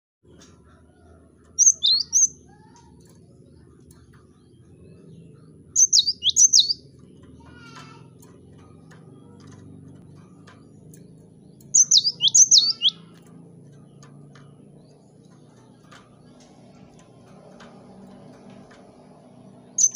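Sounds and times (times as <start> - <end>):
bird singing high downward notes: 0.2 - 19.9.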